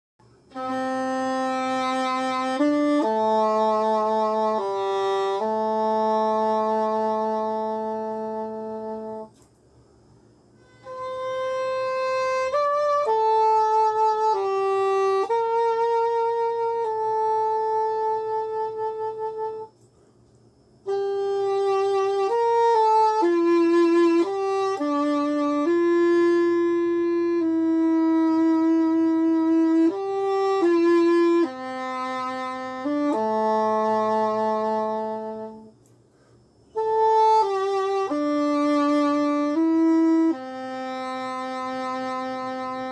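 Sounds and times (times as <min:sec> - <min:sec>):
english horn slow melody: 0:00.5 - 0:09.5, 0:10.5 - 0:20.0, 0:20.8 - 0:42.9.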